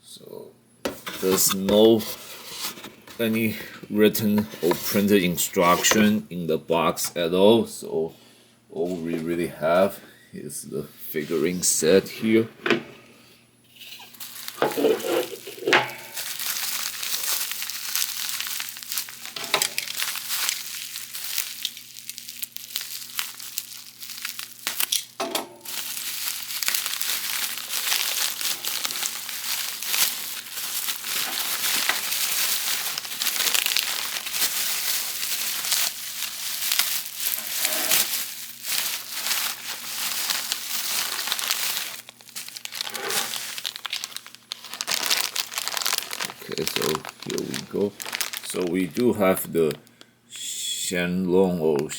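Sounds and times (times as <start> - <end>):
plastic packaging crinkling: 0.9 - 6.2, 13.7 - 50.1.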